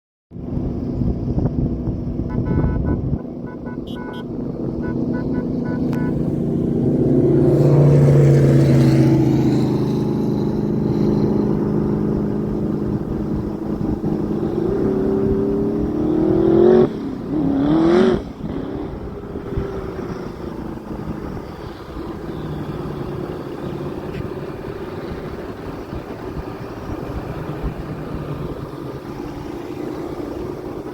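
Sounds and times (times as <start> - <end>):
engine running and revving: 0.3 - 30.9.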